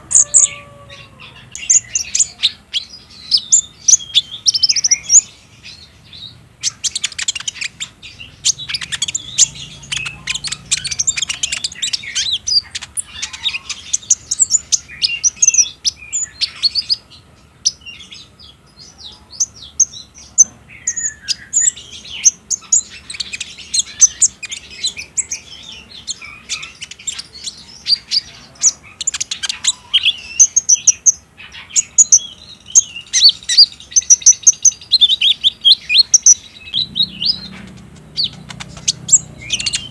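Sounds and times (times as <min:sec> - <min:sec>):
sunbird chattering song: 0:00.0 - 0:39.9.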